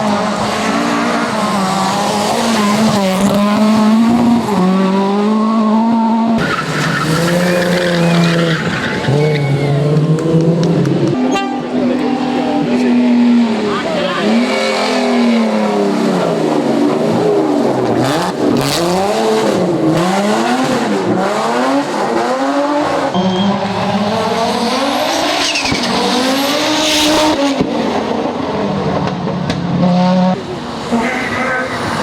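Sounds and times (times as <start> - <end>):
rally car engines revving: 0.0 - 32.0.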